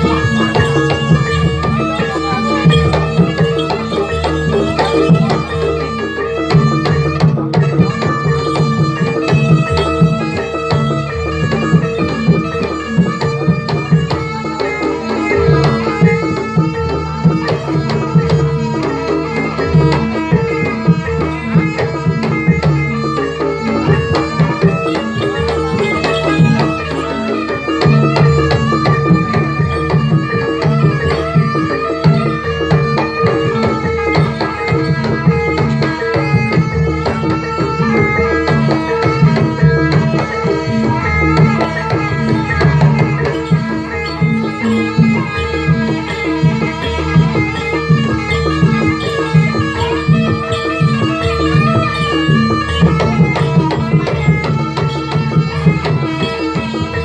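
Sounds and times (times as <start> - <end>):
fast hand drumming: 0.0 - 57.0
ringing bronze instruments: 0.0 - 57.0
steady held tone: 0.0 - 57.0.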